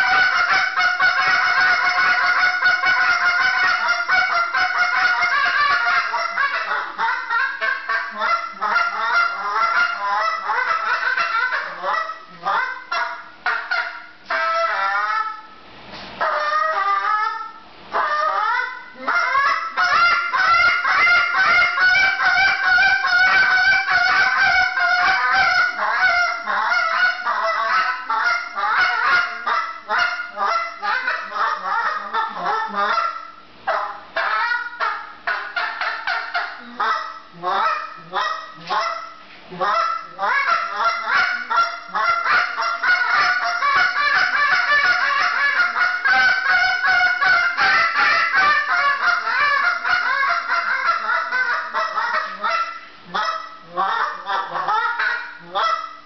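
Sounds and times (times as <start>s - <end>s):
goose call honks and clucks: 0.0s - 15.5s, 16.2s - 56.0s.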